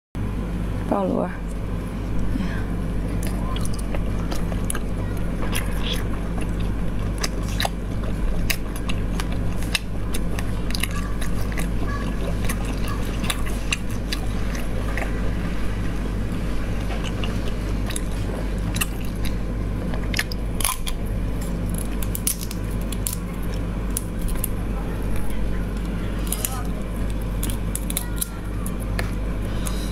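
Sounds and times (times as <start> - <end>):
low hum: 0.2 - 29.9
sucking and chewing snails: 3.0 - 29.9.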